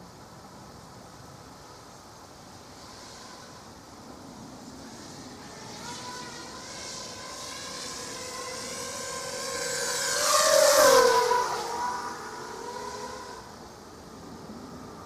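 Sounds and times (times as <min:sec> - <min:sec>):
quadcopter motors whining: 0:02.4 - 0:15.0.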